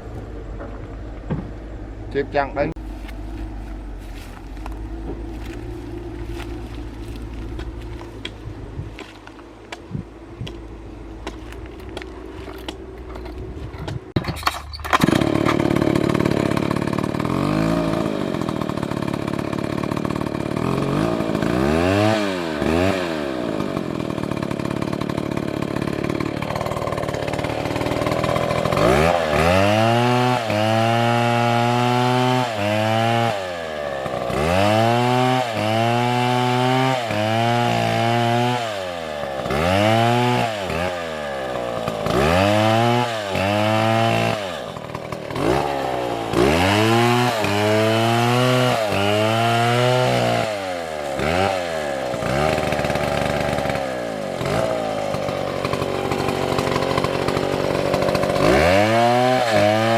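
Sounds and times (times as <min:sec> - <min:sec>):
chainsaw cutting wood: 0:02.7 - 0:59.9.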